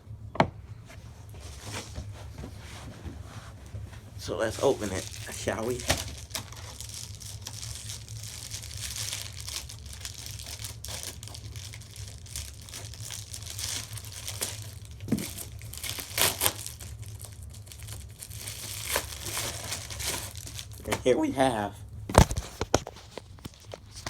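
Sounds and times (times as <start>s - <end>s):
steady low hum: 0.0s - 24.0s
packaging crinkling and rustling: 3.7s - 24.0s.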